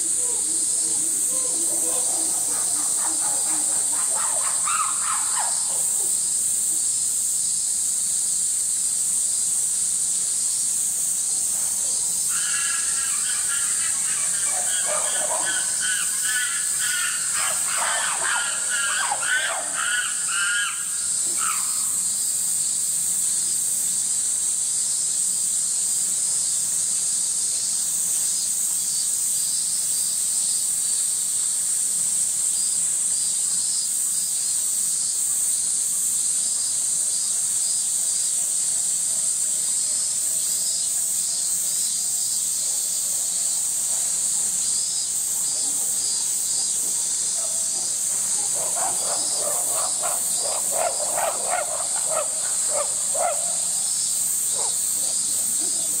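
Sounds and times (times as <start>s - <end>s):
cicada chorus drone: 0.0s - 56.0s
rapidly pulsing insect call: 0.0s - 56.0s.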